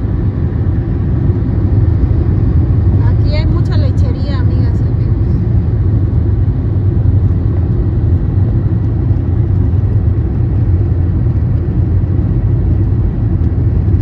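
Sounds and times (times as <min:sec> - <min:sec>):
car driving low rumble: 0:00.0 - 0:14.0.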